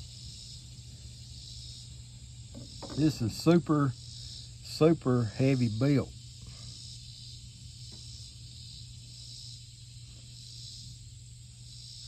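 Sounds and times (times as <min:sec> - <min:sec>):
insect chorus buzzing: 0:00.0 - 0:12.0
steady low hum: 0:00.0 - 0:12.0.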